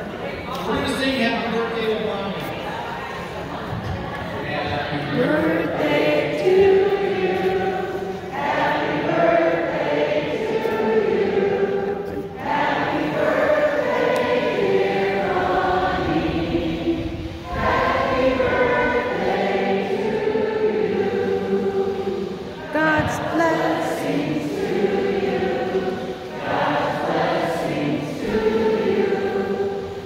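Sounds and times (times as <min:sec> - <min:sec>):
group of people singing: 0:03.2 - 0:30.0.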